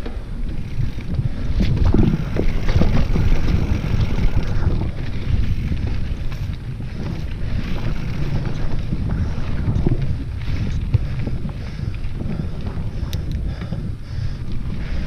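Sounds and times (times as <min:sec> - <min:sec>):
tyres rolling over dirt and rocks: 0:00.0 - 0:13.0
bike rattling: 0:00.0 - 0:15.0
wind buffeting microphone: 0:00.0 - 0:15.0.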